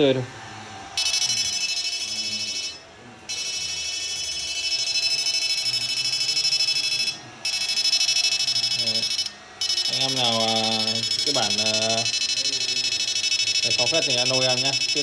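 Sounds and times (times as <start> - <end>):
high-pitched electronic whine: 0.9 - 15.0.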